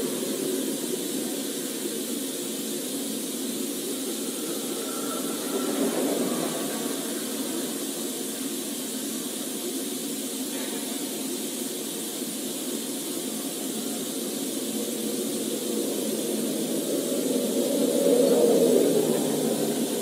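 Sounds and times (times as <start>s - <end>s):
road and engine hiss in car: 0.0s - 20.0s.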